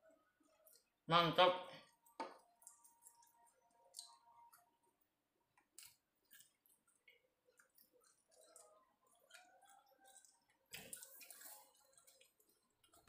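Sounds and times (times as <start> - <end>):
faint chewing and mouth clicks: 0.0 - 1.0, 1.8 - 13.0.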